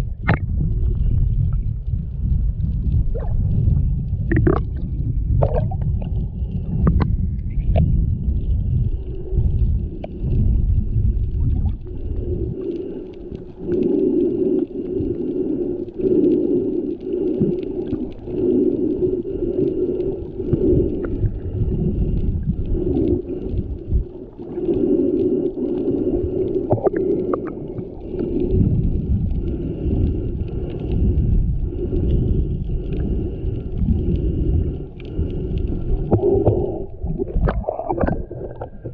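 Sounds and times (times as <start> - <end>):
underwater water rumbling and sloshing: 0.0 - 38.9.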